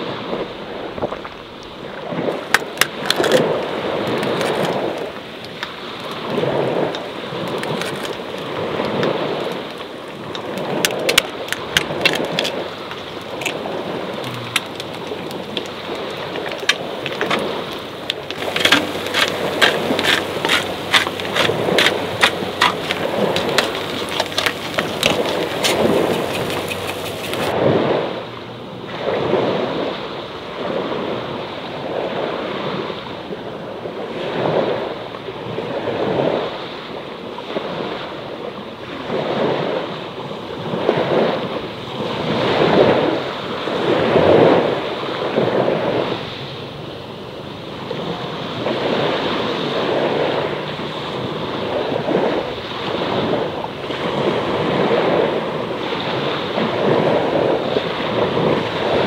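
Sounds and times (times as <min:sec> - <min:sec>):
small waves washing on shore: 0:00.0 - 0:59.0.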